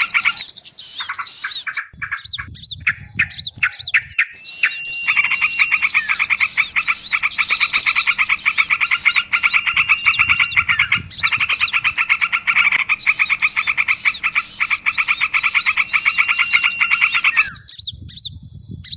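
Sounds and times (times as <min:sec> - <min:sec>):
high swooping bird chirps: 0:00.0 - 0:18.9
songbirds chattering calls: 0:00.0 - 0:18.9.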